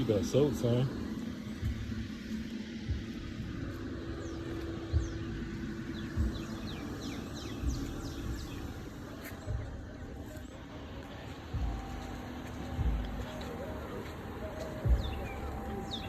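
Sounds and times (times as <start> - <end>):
bird chirping: 0.0 - 16.0
low rumbles: 0.0 - 16.0
steady low hum: 0.0 - 16.0.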